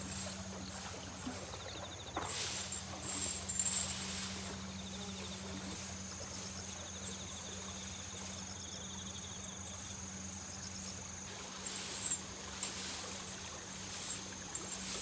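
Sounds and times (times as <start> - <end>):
insects chirping: 0.0 - 15.0
rustle: 0.0 - 15.0.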